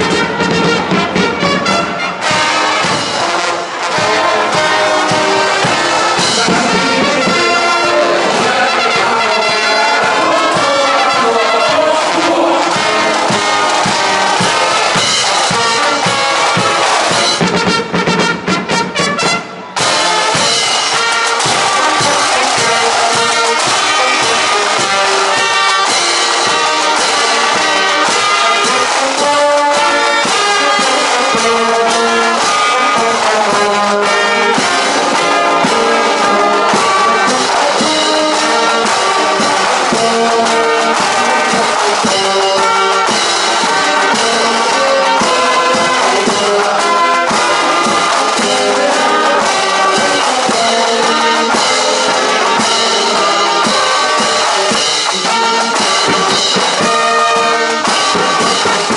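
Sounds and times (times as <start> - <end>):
brass marching band playing: 0.0 - 58.9
drum beat: 0.0 - 58.9.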